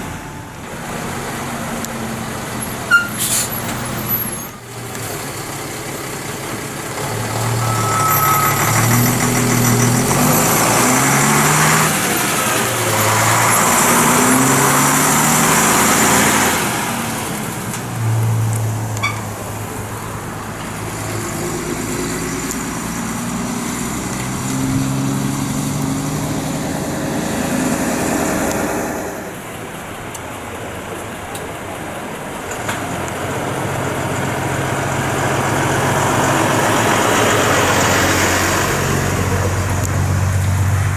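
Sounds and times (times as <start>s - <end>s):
lorry diesel engine accelerating: 0.0s - 40.9s.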